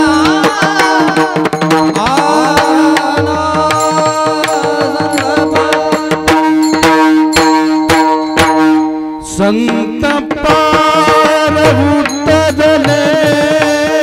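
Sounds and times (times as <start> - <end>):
steady held notes: 0.0 - 13.9
sharp percussion hits: 0.0 - 14.0
tabla strokes: 0.0 - 14.0.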